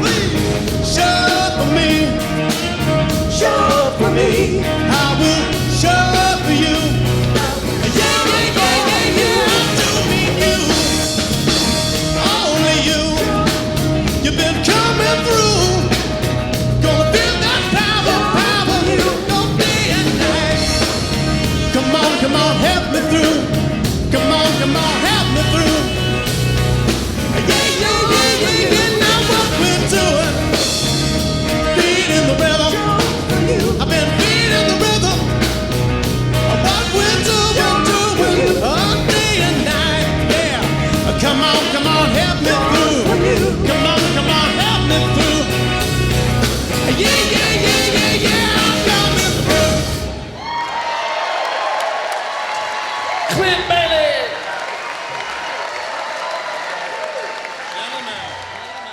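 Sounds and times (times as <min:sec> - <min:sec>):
person singing: 0:00.0 - 0:26.3, 0:27.4 - 0:35.6, 0:36.4 - 0:46.0, 0:46.7 - 0:49.9
live rock band playing: 0:00.0 - 0:50.5.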